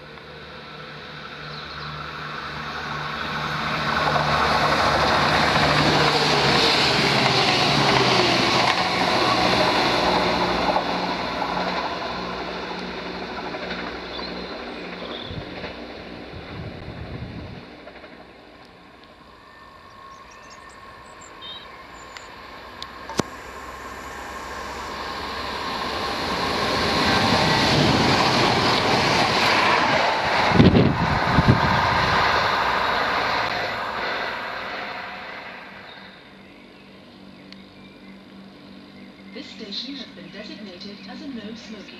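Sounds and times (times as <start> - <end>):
diesel train passing: 0.0 - 41.9.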